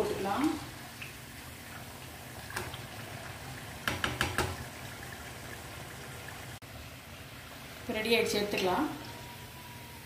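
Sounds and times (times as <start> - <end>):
food deep-frying in oil: 0.0 - 10.0.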